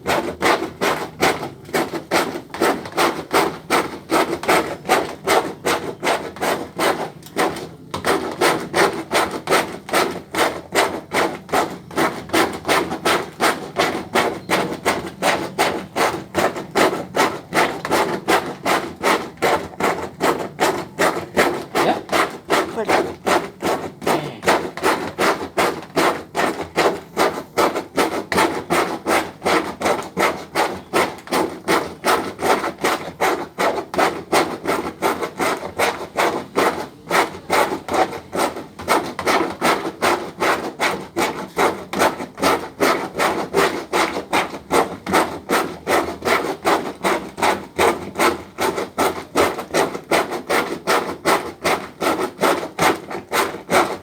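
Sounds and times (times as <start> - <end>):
manual washing machine rubbing strokes: 0.0 - 54.0.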